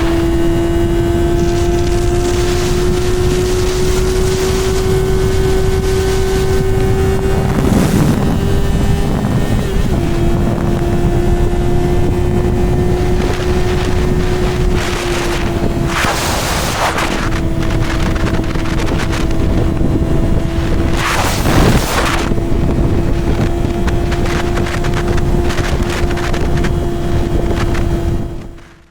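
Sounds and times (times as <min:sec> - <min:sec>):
motorcycle engine running: 0:00.0 - 0:28.9
wind noise on microphone: 0:00.0 - 0:28.9.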